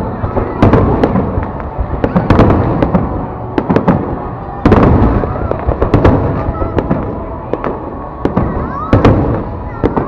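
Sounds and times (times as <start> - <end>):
fireworks bangs and cracks: 0.0 - 10.0
rumble of explosions: 0.0 - 10.0.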